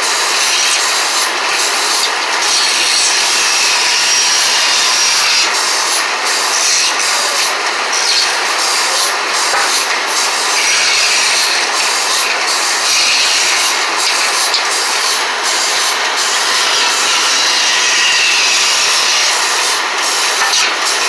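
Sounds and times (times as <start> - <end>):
bandsaw cutting wood: 0.0 - 21.0.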